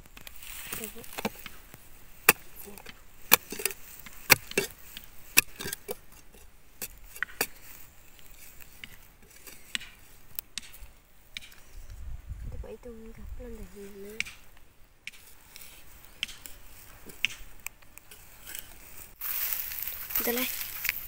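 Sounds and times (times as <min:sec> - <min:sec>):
metal tool chopping dry soil: 0:00.0 - 0:11.7, 0:14.2 - 0:21.0.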